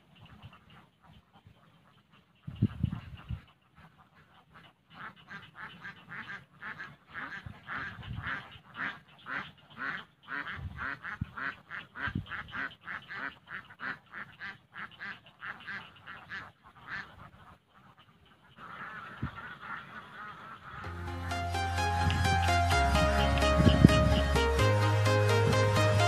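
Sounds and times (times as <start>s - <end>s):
rapid animal calls: 0.0s - 24.9s.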